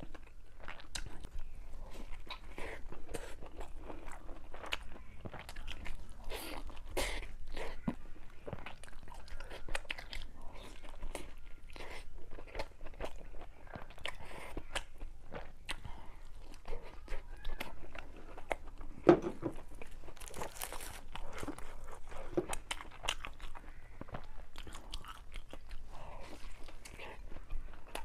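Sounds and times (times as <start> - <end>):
person chewing with crunches: 0.0 - 28.0.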